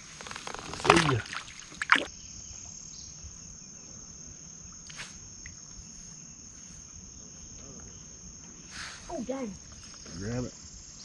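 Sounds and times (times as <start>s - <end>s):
crickets chirping chorus: 0.0s - 11.0s.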